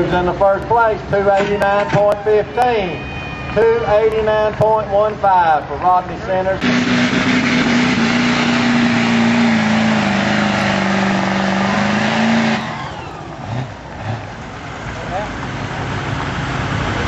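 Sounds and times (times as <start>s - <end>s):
diesel truck engine revving: 0.0s - 17.0s.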